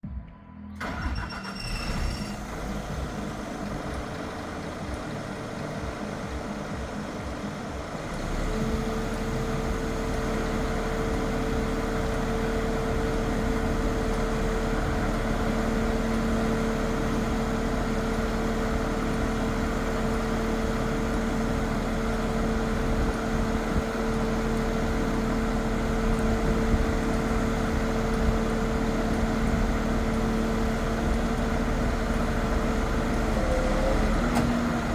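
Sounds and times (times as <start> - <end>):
truck engine running: 0.8 - 34.9
steady whine: 2.2 - 34.9.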